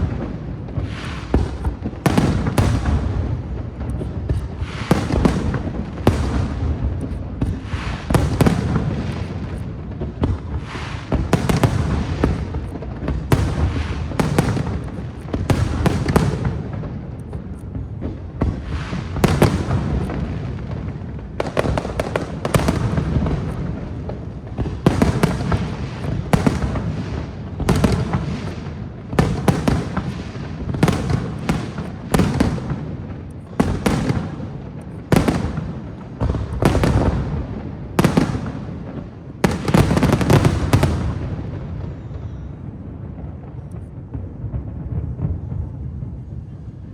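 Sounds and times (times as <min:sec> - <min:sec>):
fireworks booms and cracks: 0:00.0 - 0:46.9.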